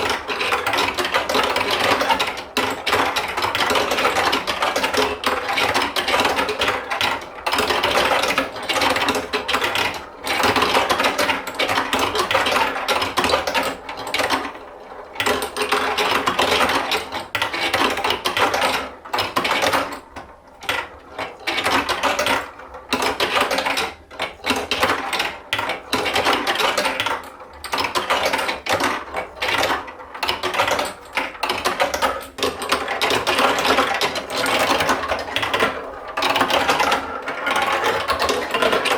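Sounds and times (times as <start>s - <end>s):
marbles rolling on plastic track: 0.0s - 38.9s
toy mechanism rattling: 0.0s - 38.9s.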